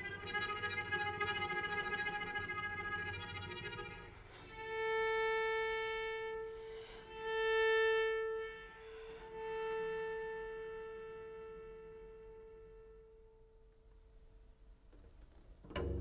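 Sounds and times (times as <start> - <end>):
solo cello: 0.0 - 14.1, 15.6 - 16.0.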